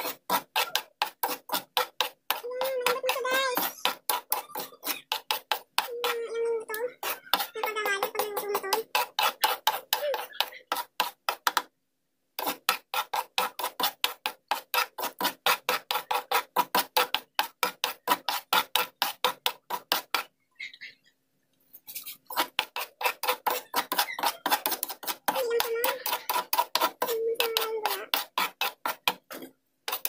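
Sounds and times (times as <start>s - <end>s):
metal spoon scraping frying pan: 0.0s - 11.4s, 12.4s - 20.2s, 21.9s - 30.0s.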